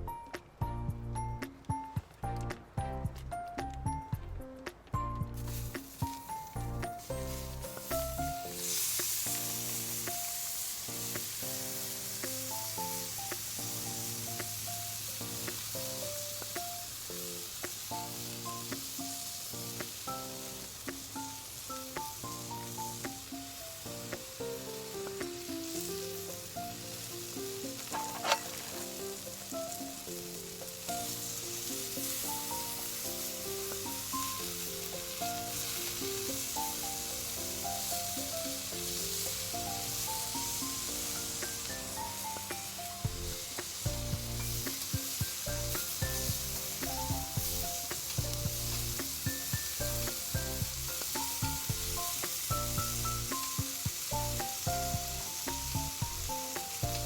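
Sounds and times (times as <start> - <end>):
background music with beat: 0.0 - 57.0
meat sizzling over campfire: 0.0 - 57.0.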